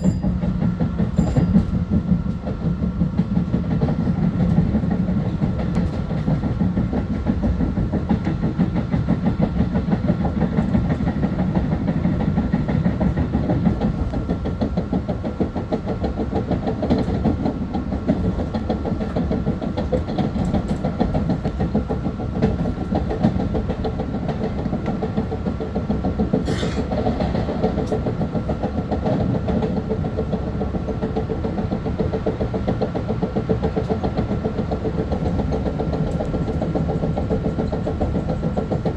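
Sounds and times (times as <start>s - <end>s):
train rumbling on rails: 0.0s - 38.9s.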